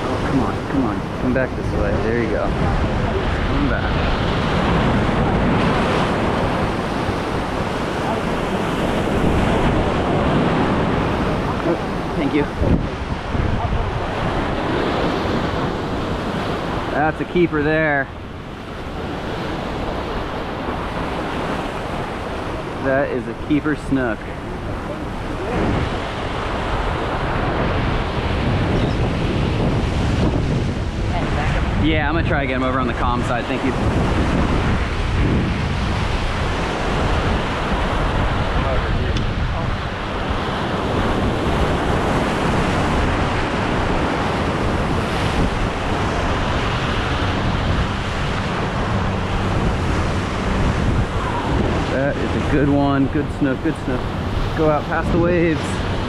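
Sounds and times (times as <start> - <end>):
surf washing against rocks: 0.0 - 56.0
wind buffeting microphone: 0.0 - 56.0.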